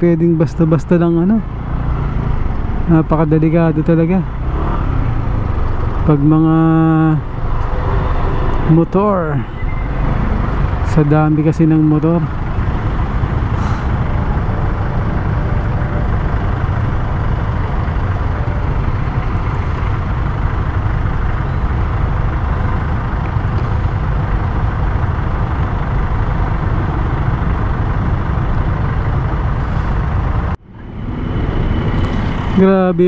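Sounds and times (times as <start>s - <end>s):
motorcycle engines: 0.0s - 33.0s
slow traffic engine rumble: 0.0s - 33.0s.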